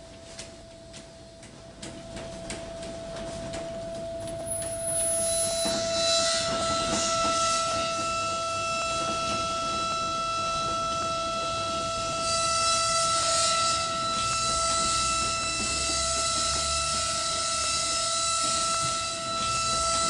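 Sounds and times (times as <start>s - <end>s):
sustained tone: 1.9s - 20.0s.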